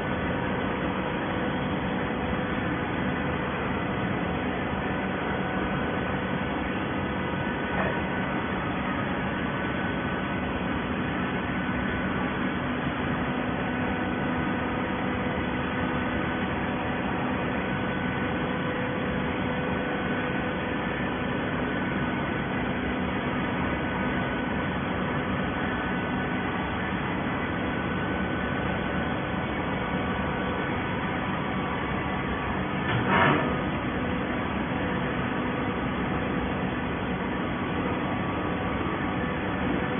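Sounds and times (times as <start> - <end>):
hydraulic baler humming: 0.0 - 39.9.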